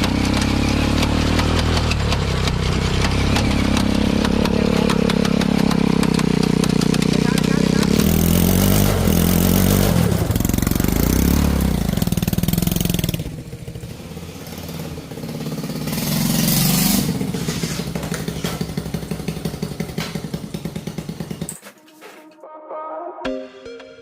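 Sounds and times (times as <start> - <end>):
motorcycle engine revving: 0.0 - 21.7.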